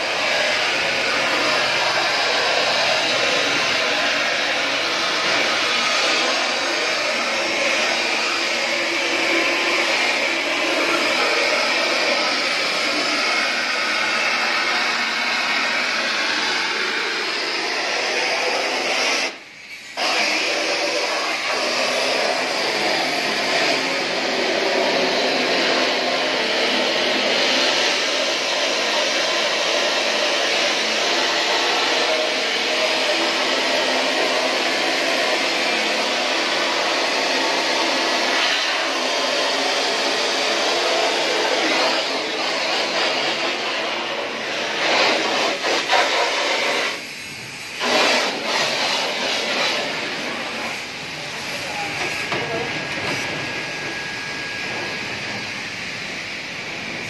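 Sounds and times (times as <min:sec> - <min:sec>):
high-pressure water spray hissing: 0:00.0 - 0:56.9.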